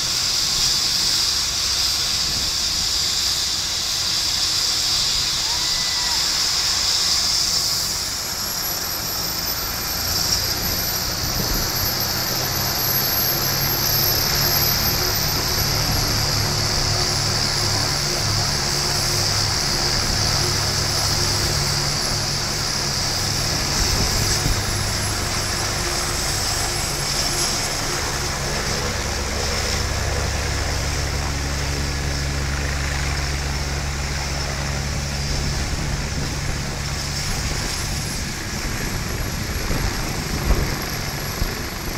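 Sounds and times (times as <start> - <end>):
helicopter rotor rumble: 0.0 - 41.9
helicopter turbine whining: 0.0 - 41.9.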